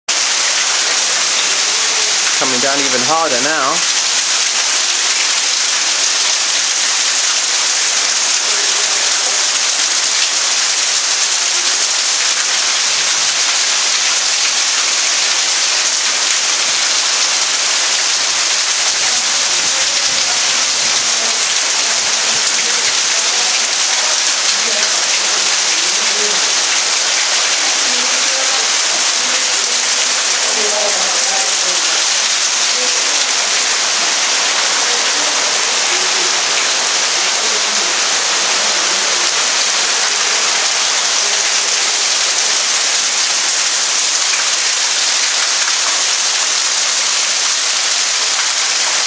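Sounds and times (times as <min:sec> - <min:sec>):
heavy rain pouring: 0:00.1 - 0:49.0.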